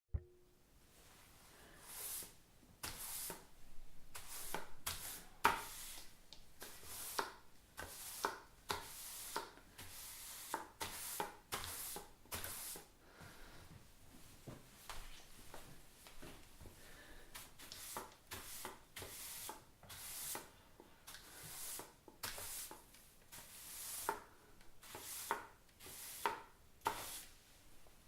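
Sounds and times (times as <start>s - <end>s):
broom sweeping a floor: 0.9s - 28.0s.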